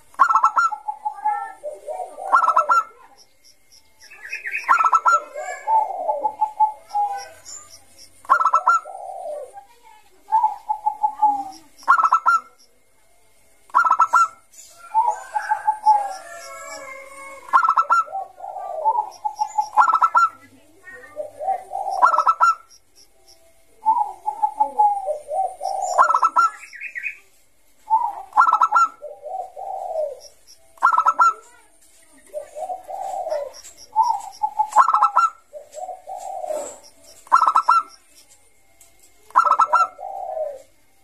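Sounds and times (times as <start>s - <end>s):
dove cooing song: 0.0s - 3.4s, 4.1s - 12.8s, 13.7s - 27.2s, 27.8s - 31.6s, 32.2s - 38.1s, 39.2s - 41.0s.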